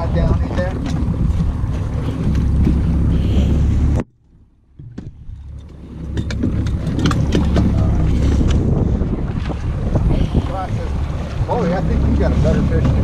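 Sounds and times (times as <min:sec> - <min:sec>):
wind on microphone: 0:00.0 - 0:04.1, 0:05.0 - 0:13.0
outboard motor hum: 0:00.0 - 0:13.0.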